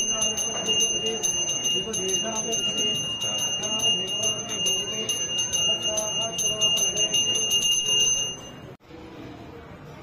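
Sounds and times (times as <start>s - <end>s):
temple bell ringing rapidly: 0.0s - 8.8s.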